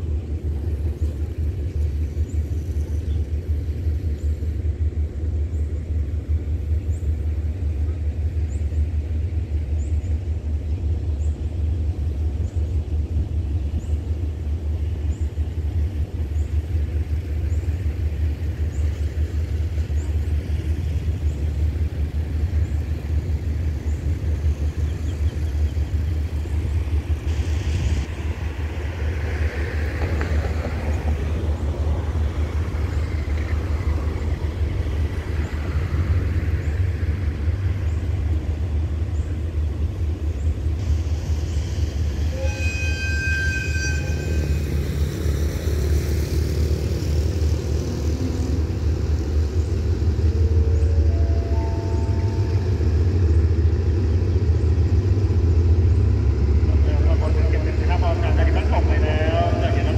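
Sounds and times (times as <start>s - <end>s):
diesel train engines idling: 0.0s - 59.9s.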